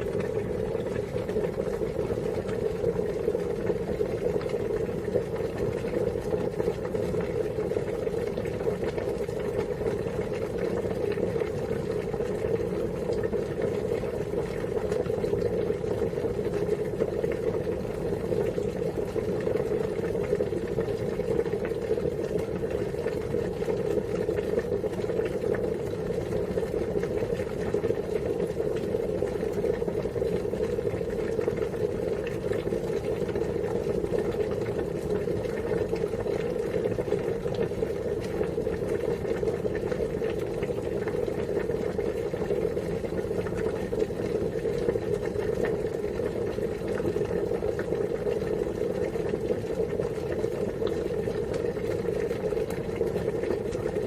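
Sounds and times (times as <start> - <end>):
water boiling: 0.0 - 54.0.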